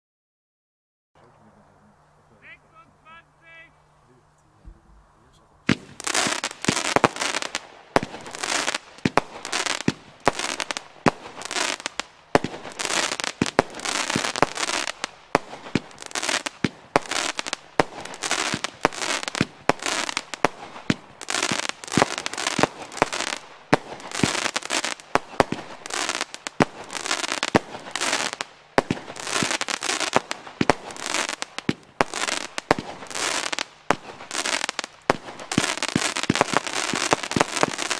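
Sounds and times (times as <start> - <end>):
crackling firework bursts: 5.6 - 37.9
fireworks launching: 5.6 - 37.9.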